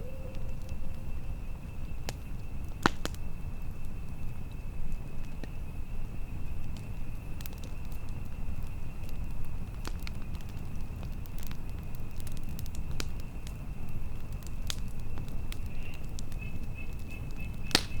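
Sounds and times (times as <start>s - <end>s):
low rumble of wind: 0.0s - 18.0s
campfire crackling and popping: 0.3s - 18.0s.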